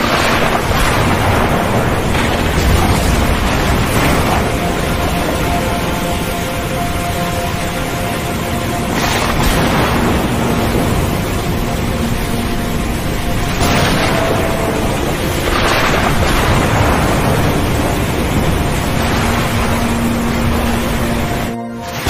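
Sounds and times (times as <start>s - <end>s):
faint steady tones: 0.0s - 22.0s
rumbling sea noise: 0.0s - 22.0s
waves crashing: 0.0s - 22.0s.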